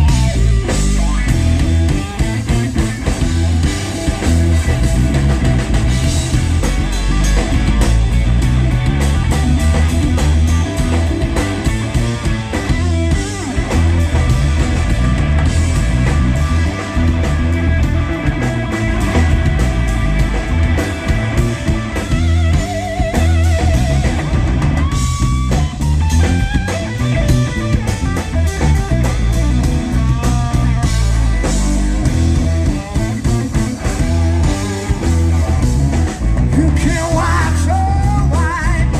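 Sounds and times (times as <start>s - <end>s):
blues-rock band playing: 0.0s - 38.9s
electric guitar lead: 0.0s - 38.9s.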